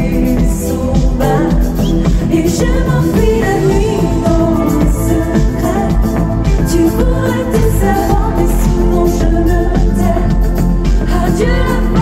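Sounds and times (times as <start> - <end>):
heavy steady drum beat: 0.0 - 12.0
woman singing lead: 0.0 - 12.0.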